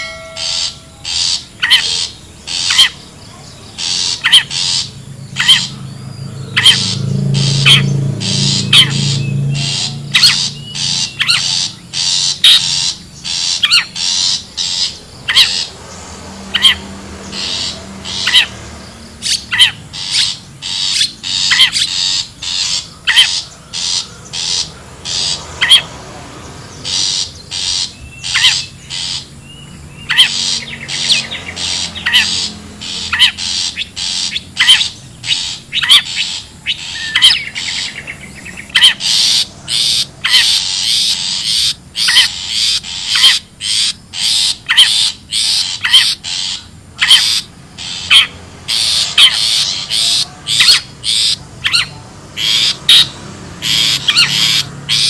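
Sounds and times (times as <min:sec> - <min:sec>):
bird giving harsh scratchy calls: 0:00.0 - 0:03.0, 0:03.8 - 0:05.8, 0:06.6 - 0:18.6, 0:19.2 - 0:25.9, 0:26.8 - 0:29.4, 0:30.1 - 0:55.0.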